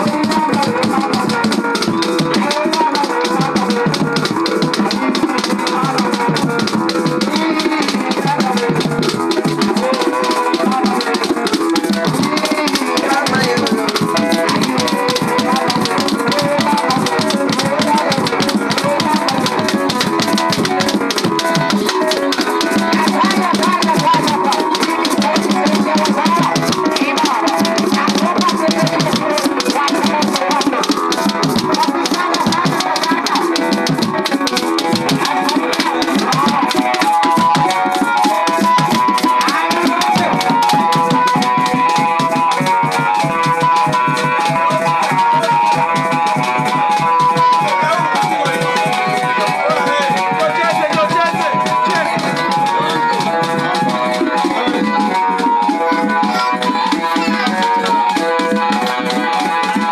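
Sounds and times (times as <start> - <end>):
dance music on electronic keyboard: 0.0 - 59.9.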